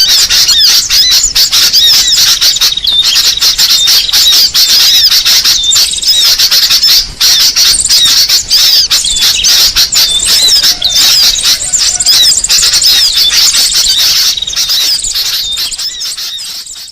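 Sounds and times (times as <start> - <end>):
many small birds chirping: 0.0 - 16.9.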